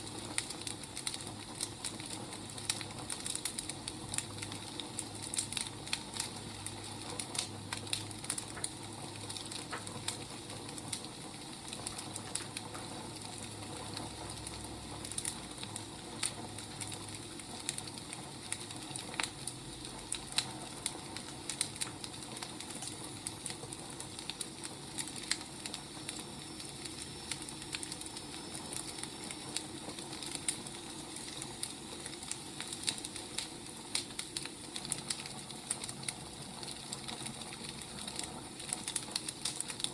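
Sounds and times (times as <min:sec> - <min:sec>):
firewood crackling: 0:00.0 - 0:39.9
soft fire hiss: 0:00.0 - 0:39.9.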